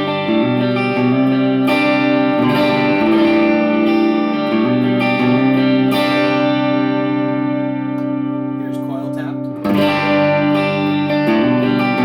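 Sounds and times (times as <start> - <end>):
electric guitar chords ringing: 0.0 - 12.0.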